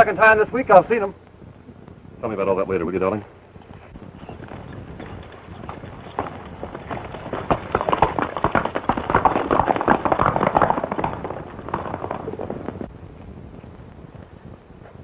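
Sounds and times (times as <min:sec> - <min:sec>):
horses galloping on dirt: 0:02.4 - 0:15.0.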